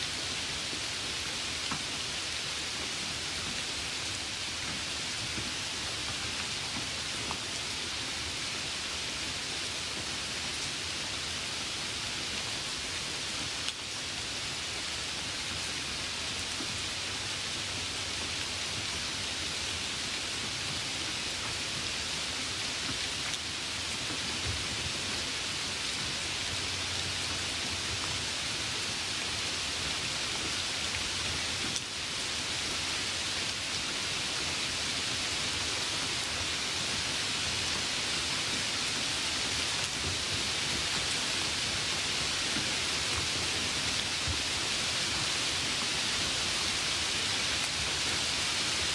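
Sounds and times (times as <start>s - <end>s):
steady hiss: 0.0s - 48.9s.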